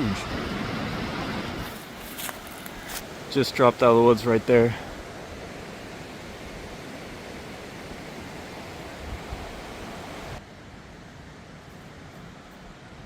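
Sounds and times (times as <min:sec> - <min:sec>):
fast river rushing: 0:00.0 - 0:13.0.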